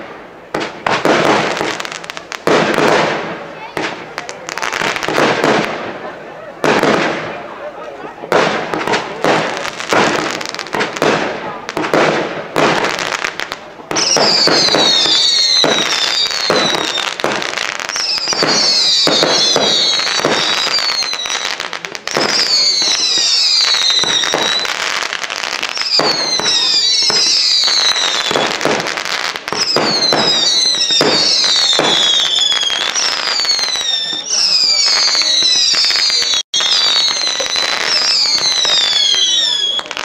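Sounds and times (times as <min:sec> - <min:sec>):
firework bangs and crackling: 0:00.0 - 0:40.0
whistling fireworks: 0:00.0 - 0:40.0.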